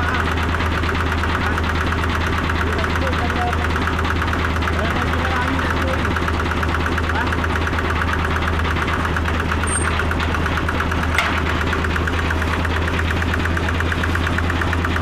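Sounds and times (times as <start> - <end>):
machine engine clattering: 0.0 - 15.0.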